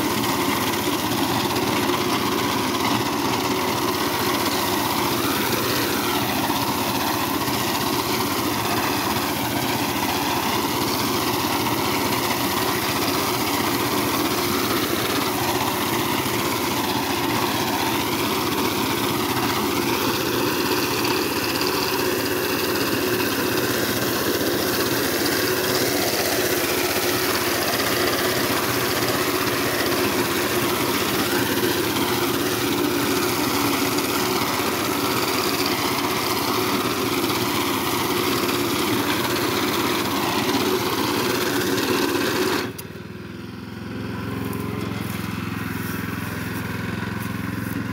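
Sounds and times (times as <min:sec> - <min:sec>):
small engine running under load: 0:00.0 - 0:47.9.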